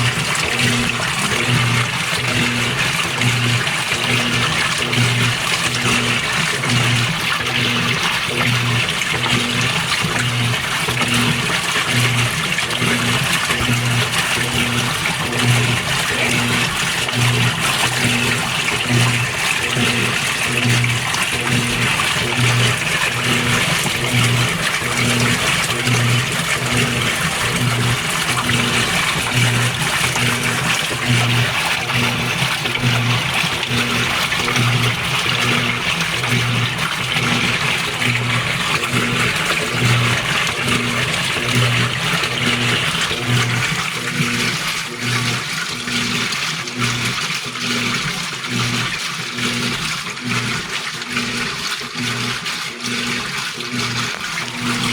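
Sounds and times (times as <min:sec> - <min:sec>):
pulsing motor hum: 0:00.0 - 0:54.9
water sloshing in washer tub: 0:00.0 - 0:54.9.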